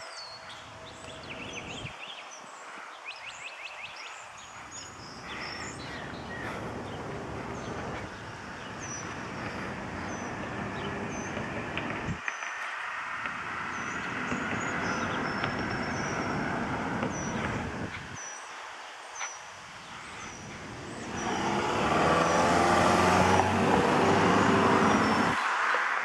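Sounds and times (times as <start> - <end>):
small birds chirping: 0.0 - 25.4
traffic noise: 0.0 - 26.0.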